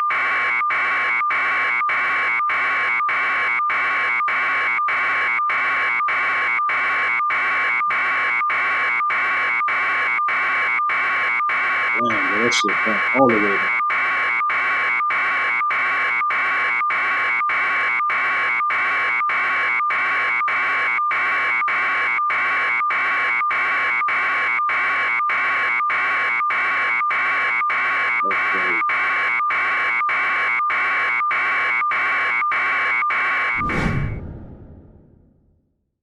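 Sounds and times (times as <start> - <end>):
alarm buzzer beeping: 0.0 - 33.6.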